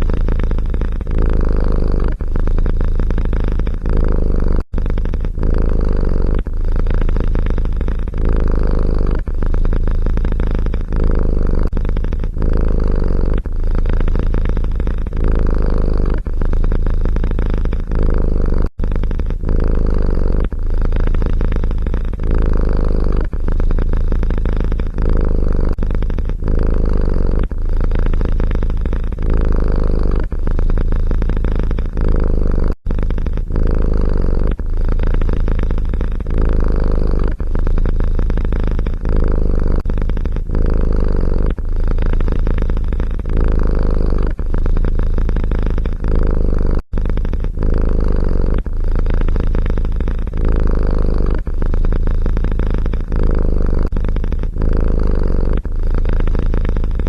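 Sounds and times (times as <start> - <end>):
cat purring loudly: 0.0 - 57.0.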